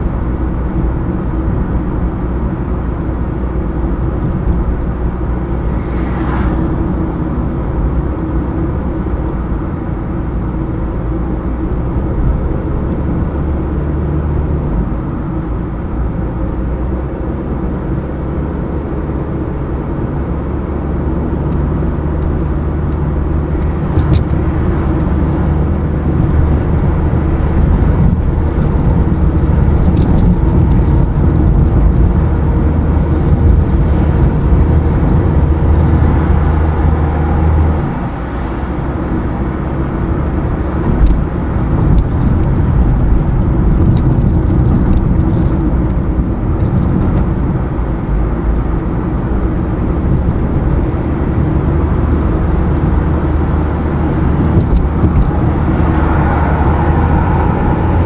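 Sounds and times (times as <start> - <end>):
car engine hum: 0.0 - 58.0
road noise: 0.0 - 58.0.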